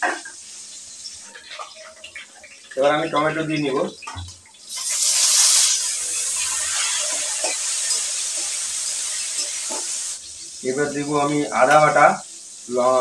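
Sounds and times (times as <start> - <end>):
tomatoes and onions sizzling in oil: 0.0 - 13.0.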